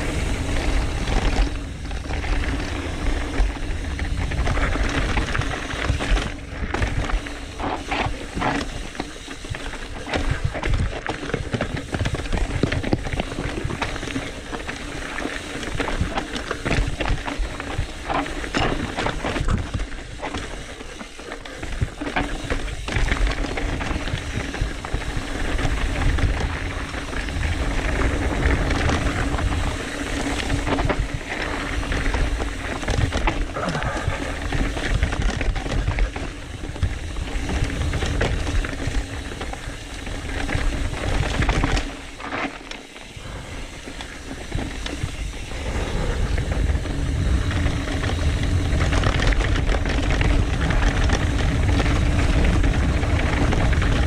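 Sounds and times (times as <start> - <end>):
wind rumble on microphone: 0.0 - 20.4, 21.6 - 41.9, 43.1 - 54.0
mountain bike rattling over rocks: 0.0 - 54.0.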